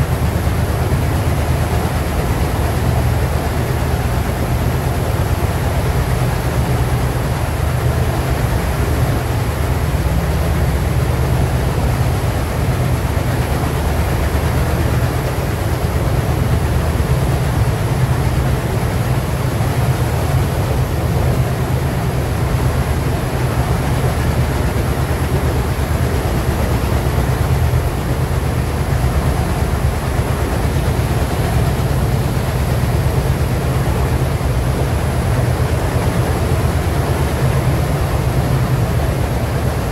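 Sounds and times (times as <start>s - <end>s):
diesel locomotives chugging: 0.0s - 39.9s
wheels rumbling on rail: 0.0s - 39.9s.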